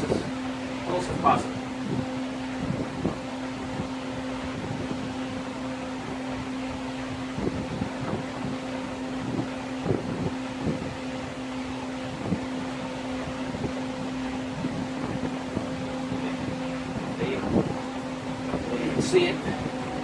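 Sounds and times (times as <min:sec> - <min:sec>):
fan motor humming: 0:00.0 - 0:20.0.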